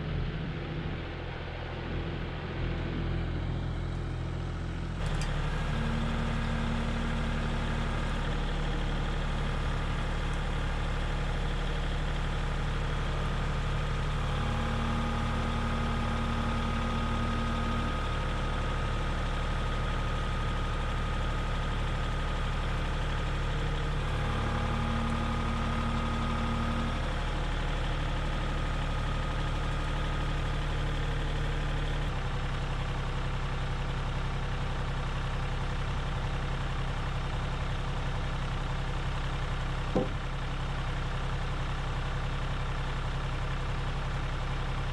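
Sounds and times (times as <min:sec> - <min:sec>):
engine idling with hum: 0:00.0 - 0:44.9.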